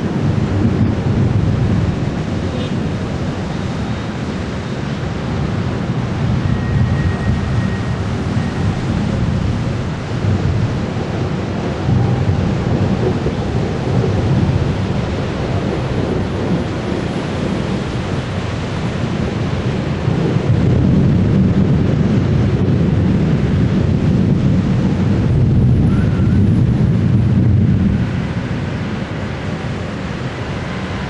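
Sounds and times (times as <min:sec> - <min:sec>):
thunder rumbling: 0:00.0 - 0:31.0.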